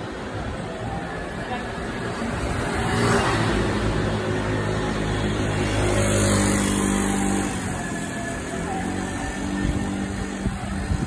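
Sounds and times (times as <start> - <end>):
street noise: 0.0 - 11.0
vehicle engine humming: 0.0 - 11.0.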